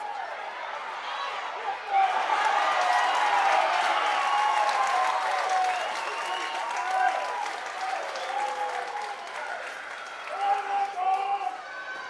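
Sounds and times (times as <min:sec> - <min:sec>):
crowd clapping and cheering: 0:01.9 - 0:12.0.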